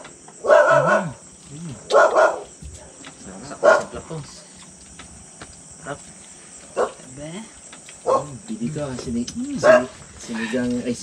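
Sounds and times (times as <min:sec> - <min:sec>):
crickets chirring: 0:00.0 - 0:11.0
voices: 0:00.0 - 0:11.0.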